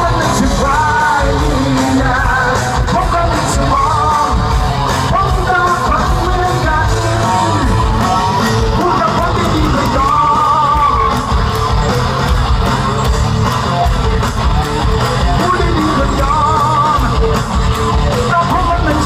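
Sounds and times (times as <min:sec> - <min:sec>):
man singing: 0:00.0 - 0:11.6, 0:15.1 - 0:19.0
drums: 0:00.0 - 0:19.0
electric guitar: 0:00.0 - 0:19.0.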